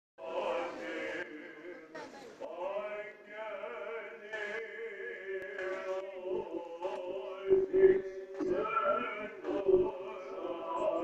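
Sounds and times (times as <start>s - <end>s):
men chanting in long held notes: 0.2s - 11.0s.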